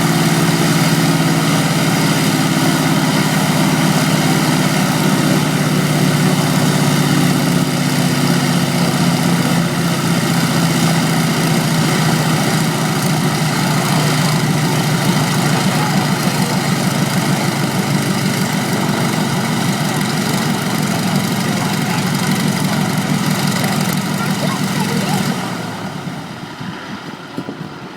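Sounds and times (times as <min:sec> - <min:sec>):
aeroplane engine running: 0:00.0 - 0:27.9.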